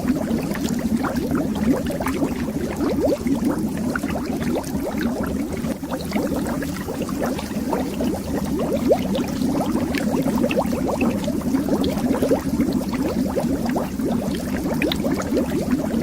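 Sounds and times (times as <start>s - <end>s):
underwater bubbles rising: 0.0s - 16.0s.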